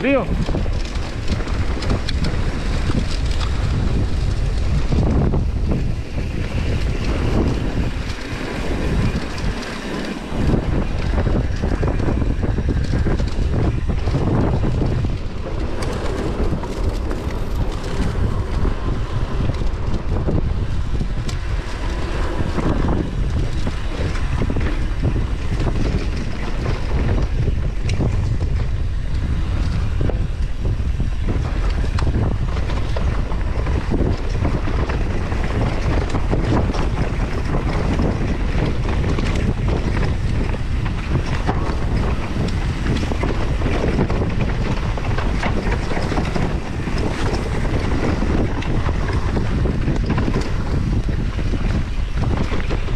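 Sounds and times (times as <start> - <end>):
bike rattling and knocking: 0.0 - 52.9
wind buffeting microphone: 0.0 - 52.9.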